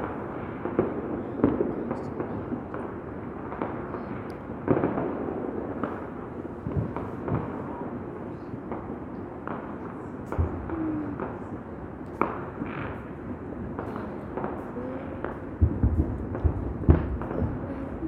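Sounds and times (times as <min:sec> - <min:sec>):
firecrackers crackling: 0:00.0 - 0:18.0
firework bangs and booms: 0:00.0 - 0:18.0.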